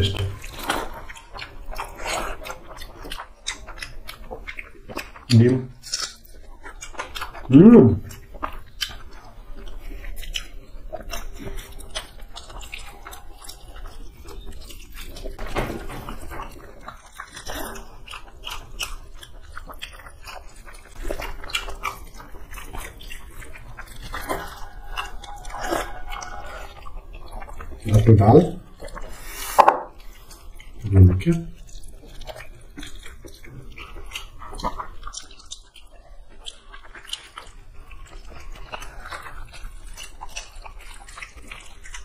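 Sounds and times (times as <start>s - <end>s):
mouth smacks and clicks: 0.0s - 15.4s, 16.5s - 42.0s
people chewing food: 0.0s - 42.0s.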